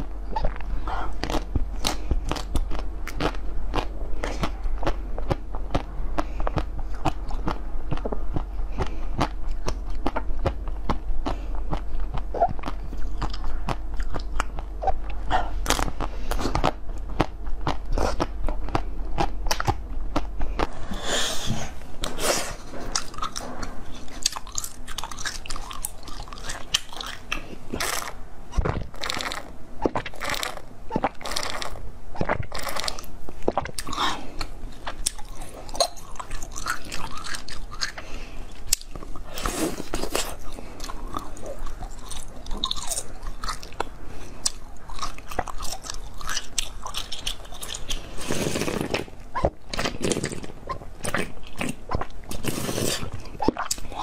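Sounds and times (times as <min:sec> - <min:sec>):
crunching frozen sweets: 0:00.0 - 0:54.0.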